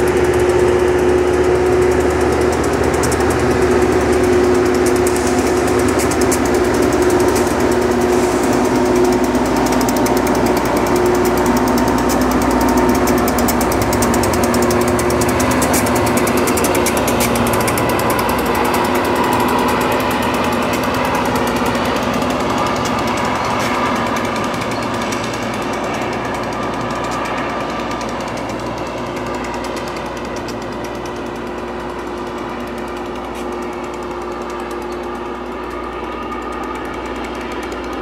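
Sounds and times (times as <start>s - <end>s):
engines humming: 0.0s - 38.0s
grinding stones on rail: 0.0s - 38.0s.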